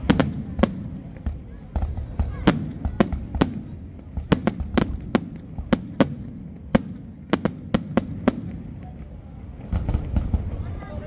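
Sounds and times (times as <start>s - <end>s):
steady low rumble: 0.0s - 10.7s
fireworks bangs and cracks: 0.0s - 10.8s.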